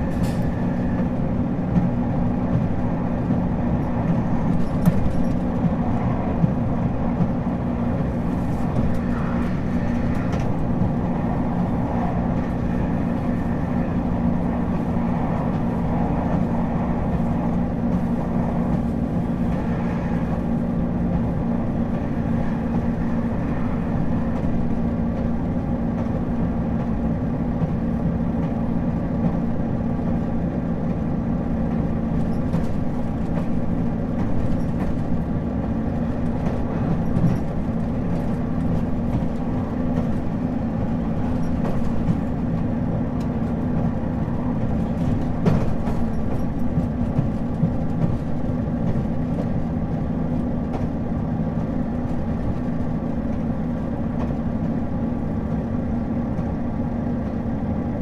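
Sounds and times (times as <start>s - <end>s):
diesel railcar engine hum: 0.0s - 58.0s.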